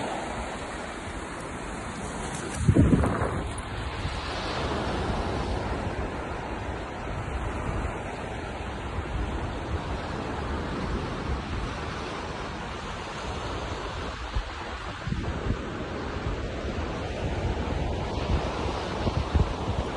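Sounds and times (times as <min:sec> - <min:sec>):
sea surf rushing: 0:00.0 - 0:19.9
wind buffeting microphone: 0:00.0 - 0:19.9.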